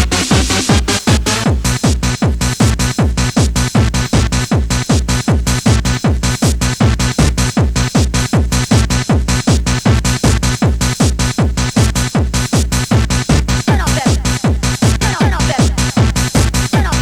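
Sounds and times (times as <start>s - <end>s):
fast hardcore dance music: 0.0s - 17.0s.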